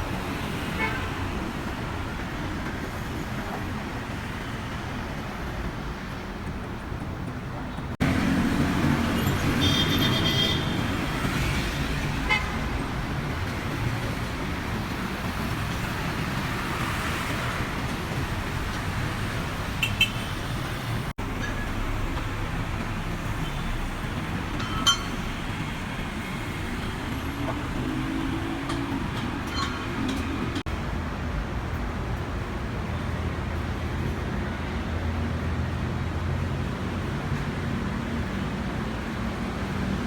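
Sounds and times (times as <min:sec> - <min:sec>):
rumble of passing vehicles: 0:00.0 - 0:40.0.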